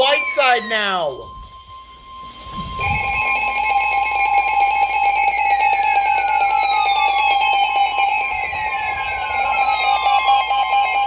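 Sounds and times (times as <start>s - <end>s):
lower steady tone: 0.0s - 11.0s
steady alarm tone: 0.0s - 11.0s.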